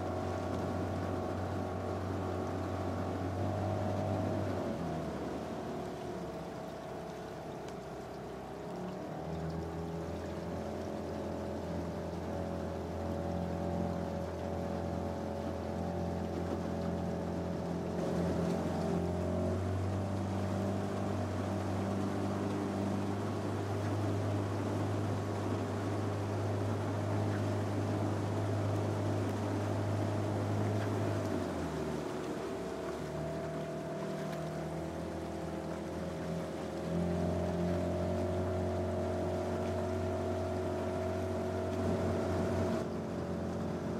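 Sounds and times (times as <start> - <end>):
boat motor running: 0.0 - 43.9.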